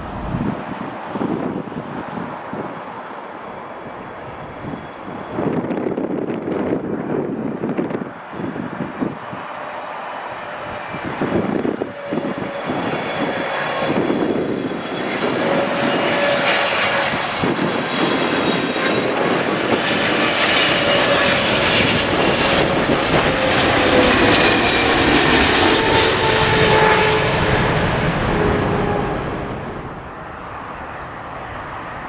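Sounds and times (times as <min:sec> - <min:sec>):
jet airliner engines rumbling: 0:00.0 - 0:32.0.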